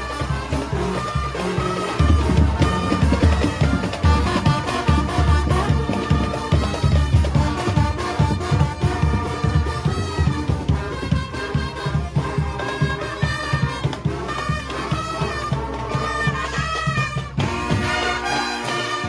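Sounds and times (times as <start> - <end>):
brass horns playing tune: 0.0 - 19.0
steady drum beat: 0.0 - 19.0.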